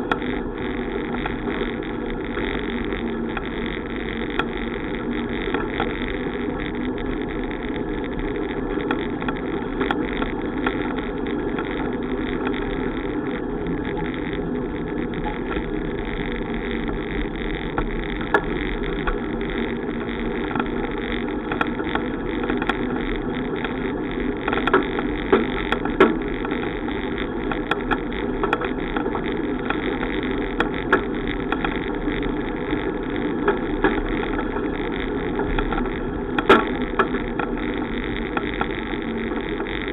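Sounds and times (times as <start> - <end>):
bicycle road and wind rumble: 0.0 - 39.9
sharp clicks and rattles: 0.0 - 39.9.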